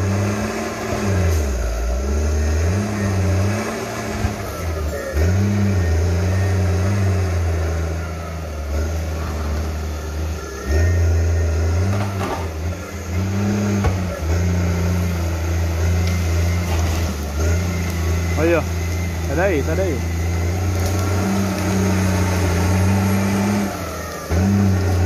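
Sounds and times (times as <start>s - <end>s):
crawler tractor diesel engine under load: 0.0s - 25.0s.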